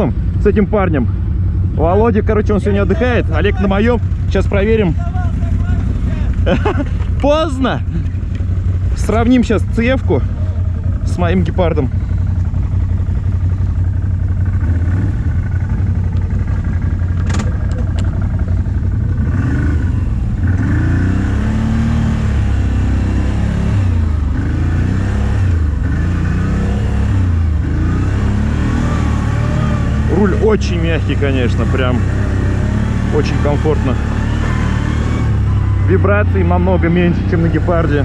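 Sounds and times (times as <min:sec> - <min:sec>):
quad engine revving: 0:02.5 - 0:38.0.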